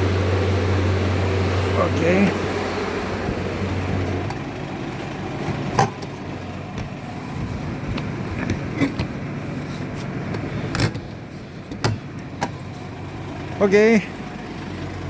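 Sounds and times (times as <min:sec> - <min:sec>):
refrigeration unit humming: 0:00.0 - 0:15.0.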